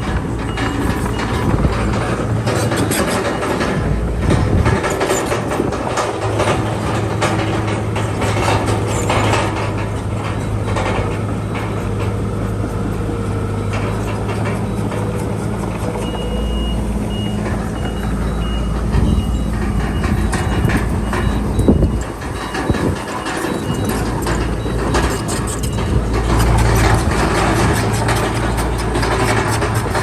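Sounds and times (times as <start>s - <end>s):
diesel engine humming: 0.0s - 30.0s
steel tracks clattering: 0.0s - 30.0s.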